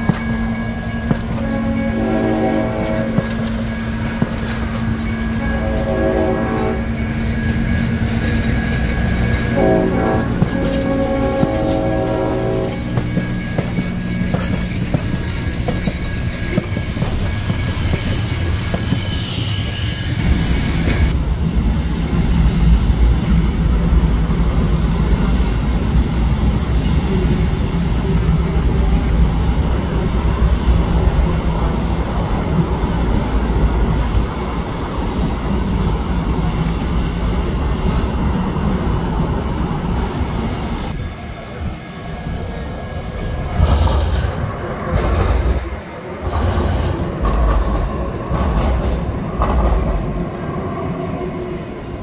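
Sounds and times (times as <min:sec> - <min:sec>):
train wheels squealing: 0:00.0 - 0:21.2, 0:23.2 - 0:52.0
heavy deep locomotive rumble: 0:00.0 - 0:42.5, 0:43.1 - 0:52.0
steam train rolling past: 0:00.0 - 0:52.0.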